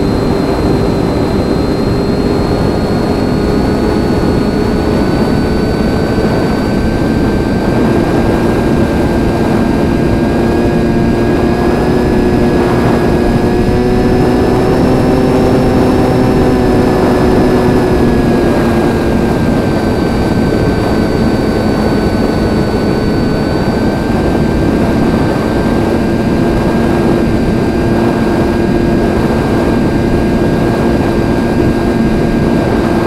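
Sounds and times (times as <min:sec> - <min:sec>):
electric motor and propeller whine: 0:00.0 - 0:33.0
rush of air: 0:00.0 - 0:33.0.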